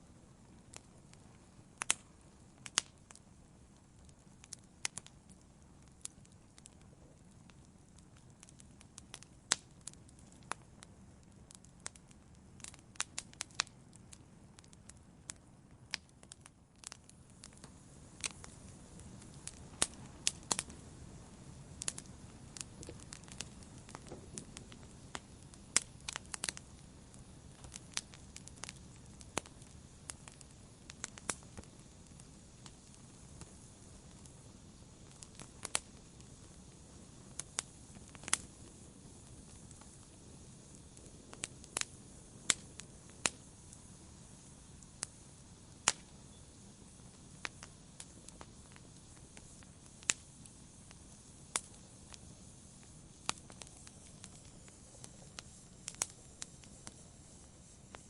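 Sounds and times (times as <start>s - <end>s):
campfire wood crackling: 0.0s - 58.0s
flame rushing: 0.2s - 58.0s.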